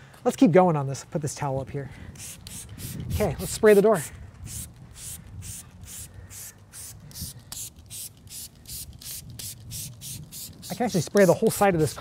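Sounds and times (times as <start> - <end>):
spray bottle hissing sprays: 2.2 - 12.0.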